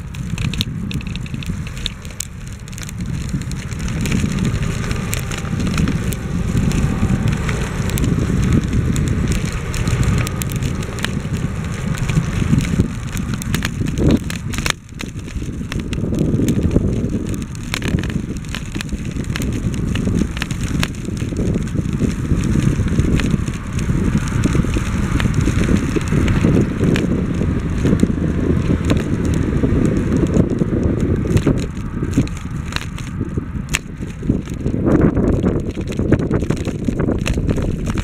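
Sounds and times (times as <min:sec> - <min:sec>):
bicycle clicks and rattles: 0:00.0 - 0:38.0
bicycle tyre noise: 0:00.0 - 0:38.0
wind on microphone: 0:00.0 - 0:38.0.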